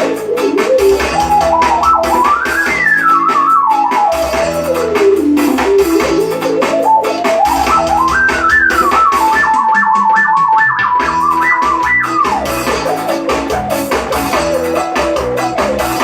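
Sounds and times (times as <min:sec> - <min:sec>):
bass accompaniment: 0:00.0 - 0:16.0
drum beat: 0:00.0 - 0:16.0
synth lead melody: 0:00.0 - 0:16.0.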